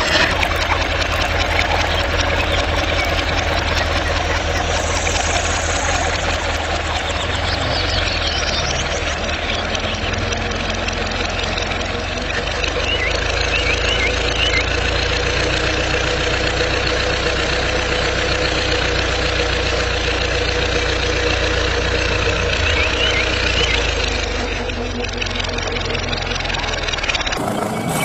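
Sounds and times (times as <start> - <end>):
toy tractor idling hum: 0.0 - 28.0.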